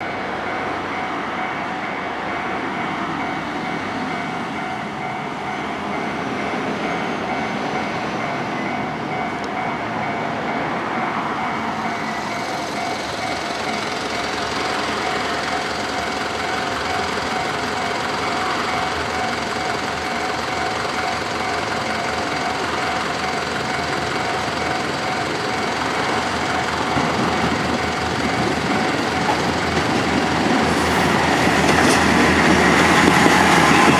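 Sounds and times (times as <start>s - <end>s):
diesel train approaching: 0.0s - 33.9s
level crossing alarm ringing: 0.0s - 33.9s.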